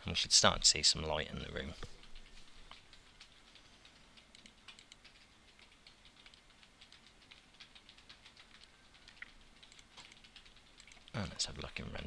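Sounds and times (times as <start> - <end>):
keyboard and mouse clicks: 1.4 - 12.0.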